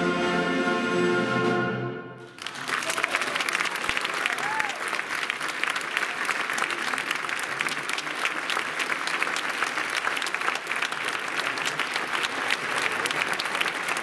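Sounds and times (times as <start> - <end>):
audience applauding: 2.3 - 14.0.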